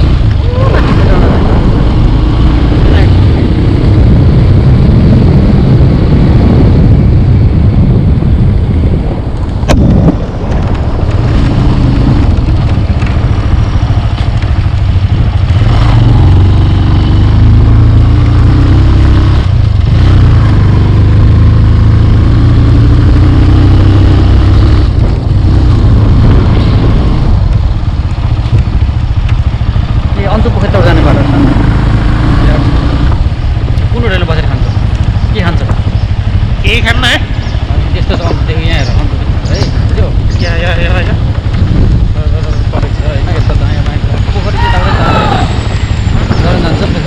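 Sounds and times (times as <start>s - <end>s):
motorcycle running: 0.0s - 47.0s
wind buffeting microphone: 0.0s - 47.0s.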